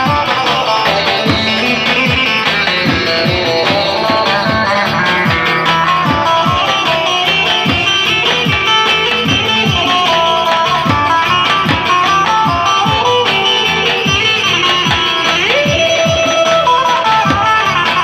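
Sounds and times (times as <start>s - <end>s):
drum beats with low boom: 0.0s - 18.0s
plucked string melody: 0.0s - 18.0s.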